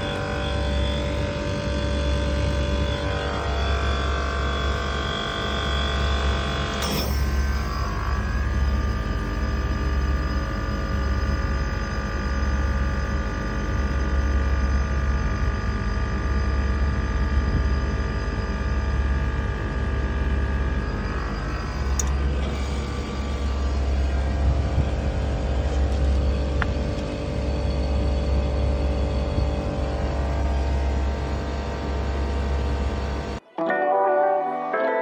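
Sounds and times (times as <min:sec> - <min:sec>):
air conditioner unit humming: 0:00.0 - 0:33.4.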